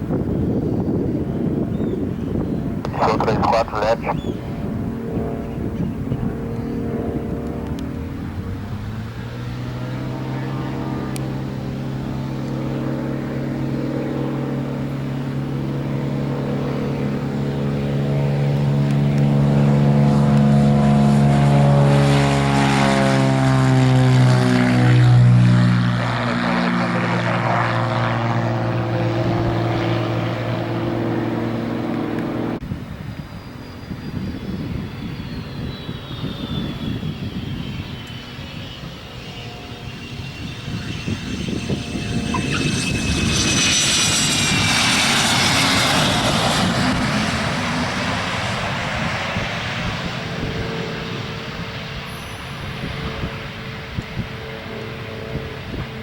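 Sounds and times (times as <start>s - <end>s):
propeller airplane passing: 0.0s - 56.0s.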